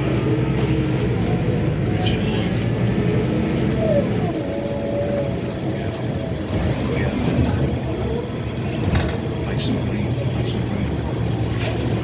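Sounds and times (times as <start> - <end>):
diesel coach engine rumbling: 0.0 - 12.0
road noise: 0.0 - 12.0.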